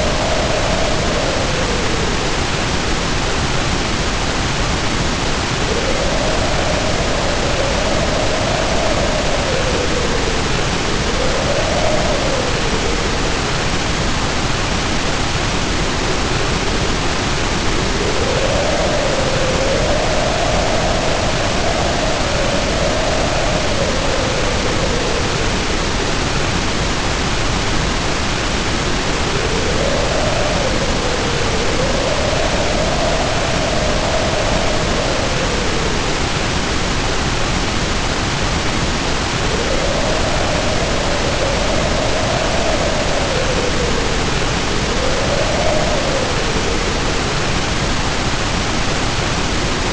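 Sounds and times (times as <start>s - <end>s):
heavy rain pouring: 0.0s - 49.9s
wind howling: 0.0s - 49.9s.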